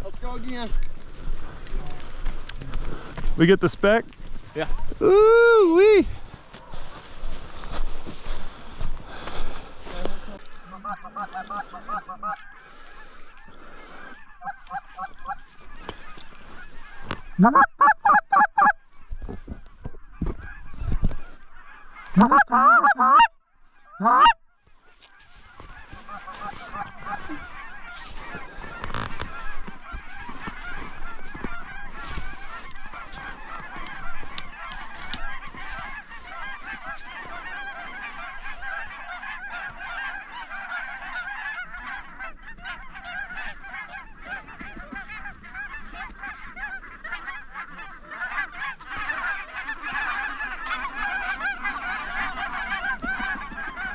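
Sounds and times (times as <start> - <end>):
geese honking: 0.1 - 53.9.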